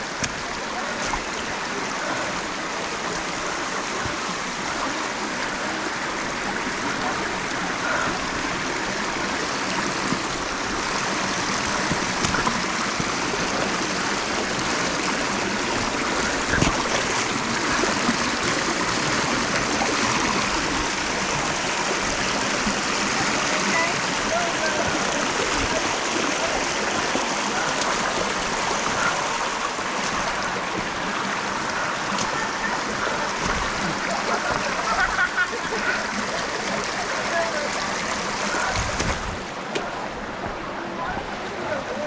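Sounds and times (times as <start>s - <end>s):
stream rushing over boulders: 0.0s - 42.0s.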